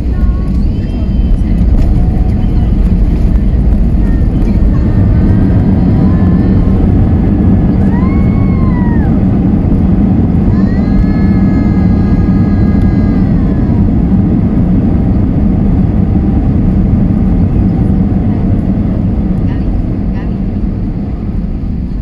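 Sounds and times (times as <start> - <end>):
low rumble of engines and wheels: 0.0 - 22.0
whine: 0.0 - 22.0.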